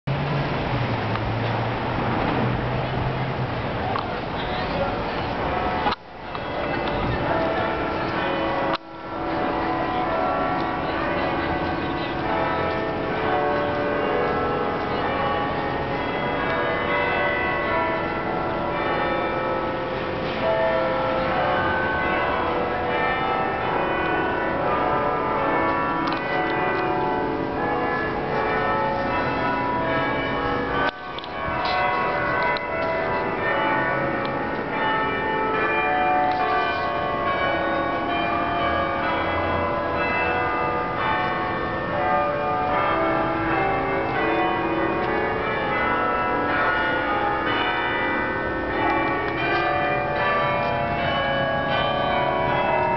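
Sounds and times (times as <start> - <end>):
bells ringing: 3.8 - 52.9.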